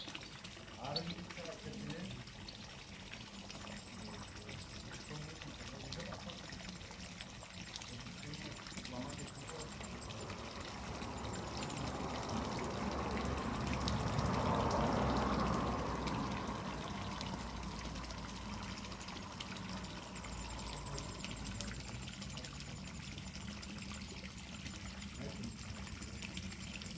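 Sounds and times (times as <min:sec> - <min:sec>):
water pouring into basin: 0:00.0 - 0:26.9.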